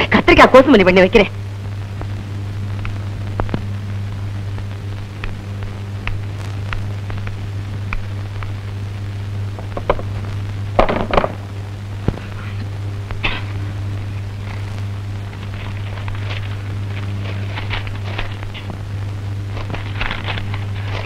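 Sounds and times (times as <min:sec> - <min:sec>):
low hum with crackle: 0:00.0 - 0:21.0
noisy rustling: 0:00.0 - 0:21.0.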